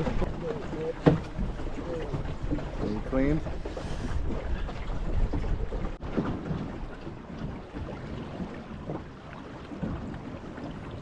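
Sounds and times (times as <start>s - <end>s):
river water flowing: 0.0s - 11.0s
wind rumbling on microphone: 0.0s - 11.0s.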